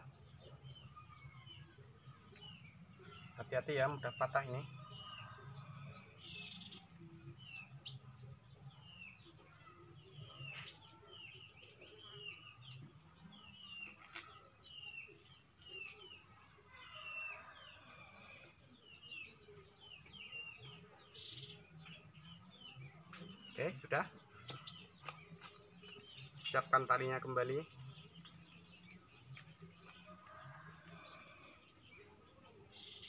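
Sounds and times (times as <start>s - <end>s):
bird chirping falling calls: 0.0s - 33.0s.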